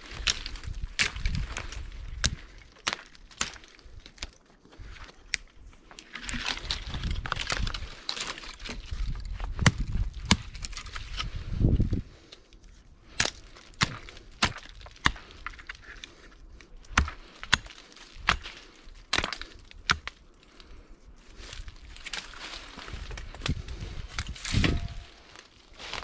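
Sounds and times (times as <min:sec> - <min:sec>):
dry wood snapping: 0:00.0 - 0:11.4, 0:12.2 - 0:26.0.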